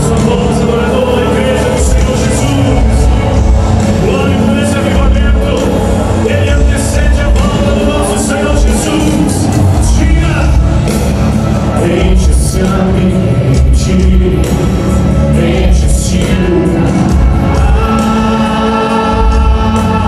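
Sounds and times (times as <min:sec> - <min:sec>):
band with heavy bass and drums: 0:00.0 - 0:20.0
worship singing: 0:00.0 - 0:20.0.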